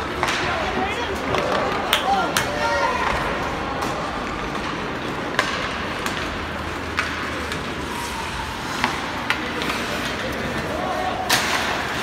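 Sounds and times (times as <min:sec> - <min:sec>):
hockey sticks and puck clacking: 0:00.0 - 0:12.0
skates on ice: 0:00.0 - 0:12.0.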